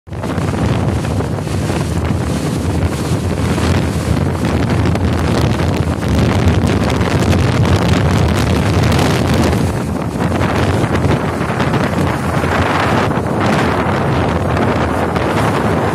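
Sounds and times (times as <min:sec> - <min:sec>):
wind buffeting microphone: 0:00.1 - 0:15.9.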